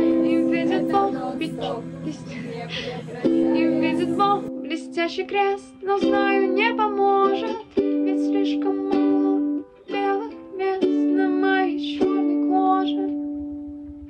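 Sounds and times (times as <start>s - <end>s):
person singing: 0.0s - 13.8s
ukulele strumming chords: 0.0s - 14.0s.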